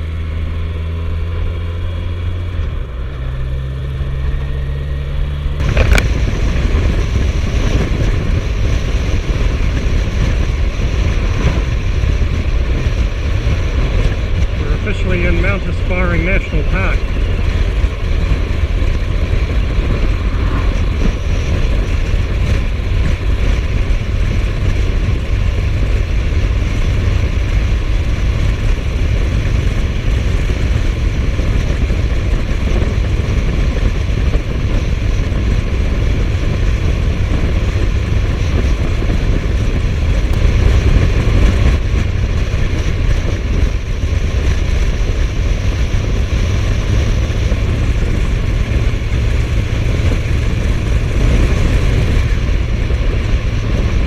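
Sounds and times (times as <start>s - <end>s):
motorcycle engine cruising: 0.0s - 54.0s
wind rumble: 0.0s - 54.0s.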